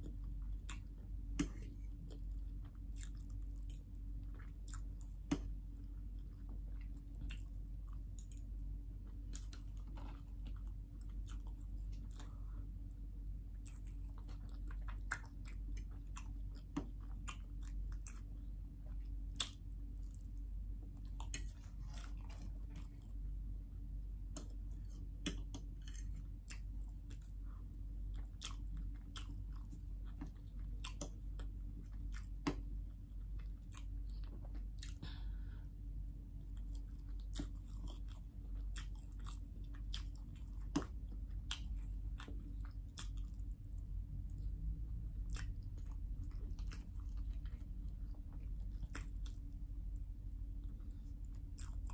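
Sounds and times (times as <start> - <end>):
chewing and wet mouth sounds: 0.0 - 51.9
low steady hum: 0.0 - 51.9.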